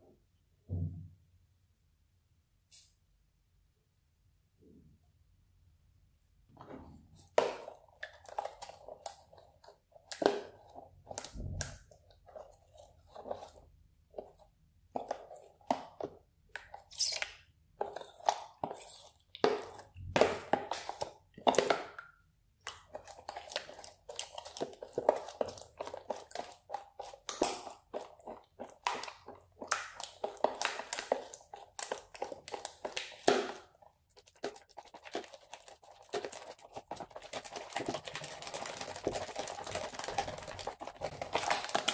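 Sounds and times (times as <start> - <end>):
slime squelching: 6.5 - 41.9.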